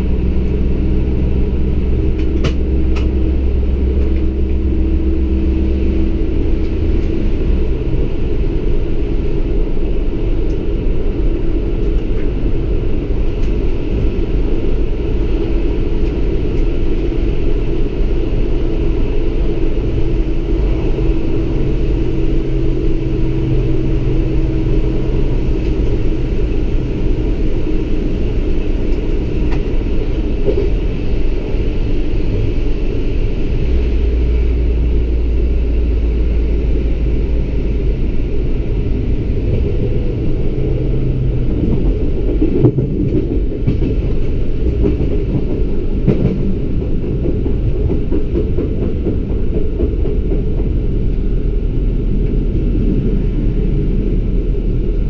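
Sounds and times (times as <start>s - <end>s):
train engine and wheels rumbling: 0.0s - 55.0s.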